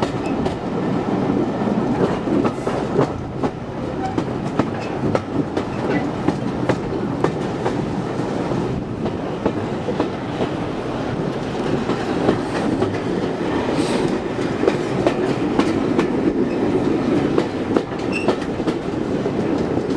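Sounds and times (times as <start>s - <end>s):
wheels clicking over rail joints: 0.0s - 7.9s, 8.9s - 19.9s
train wheels rumbling on rails: 0.0s - 19.9s.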